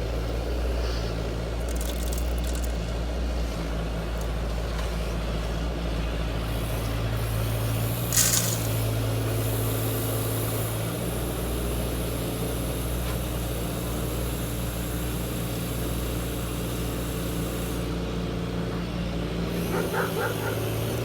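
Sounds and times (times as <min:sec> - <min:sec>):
motor humming steadily: 0:00.0 - 0:21.0.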